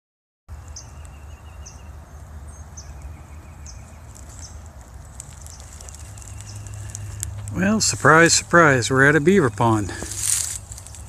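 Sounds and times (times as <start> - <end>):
low steady rumble: 1.8 - 11.0.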